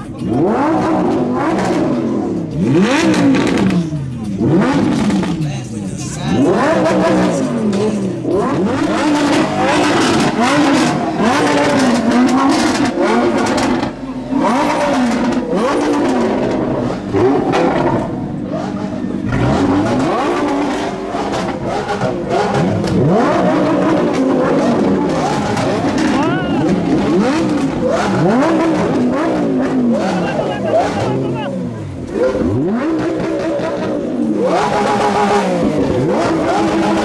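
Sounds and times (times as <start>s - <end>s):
sports car engine revving: 0.0s - 37.0s.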